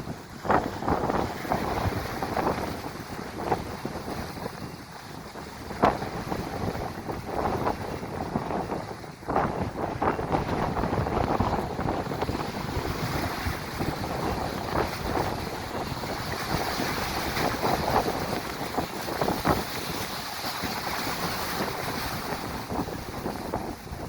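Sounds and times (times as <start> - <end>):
high waves breaking: 0.0 - 24.0
wind buffeting microphone: 0.0 - 24.0.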